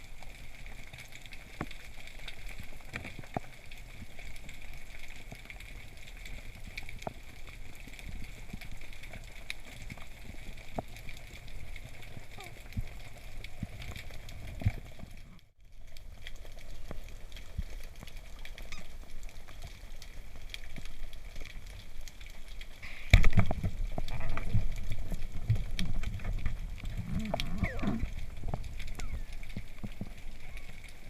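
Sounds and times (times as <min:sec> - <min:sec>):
underwater noise: 0:00.0 - 0:31.0.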